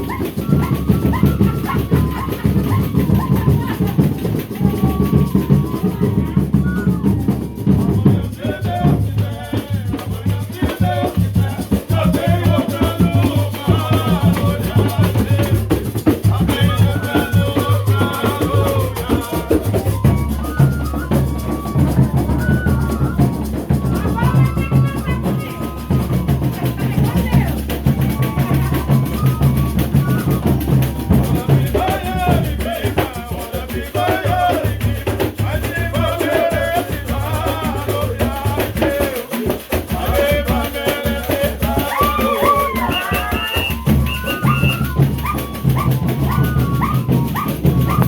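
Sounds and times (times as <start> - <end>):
rattles shaking: 0.0 - 6.8, 7.4 - 48.0
drums beating: 0.0 - 48.0
voices singing: 0.0 - 48.0.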